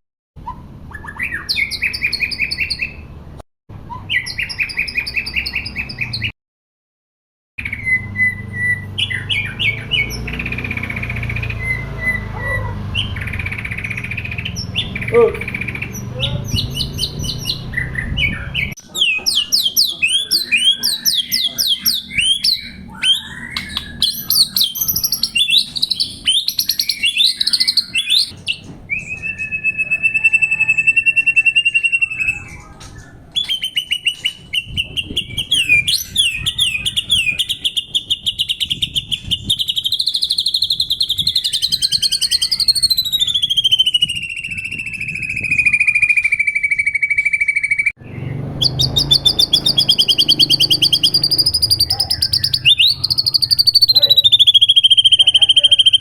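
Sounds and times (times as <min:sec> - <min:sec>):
bird singing whistled trills: 0:07.6 - 0:12.4, 0:13.0 - 0:56.0.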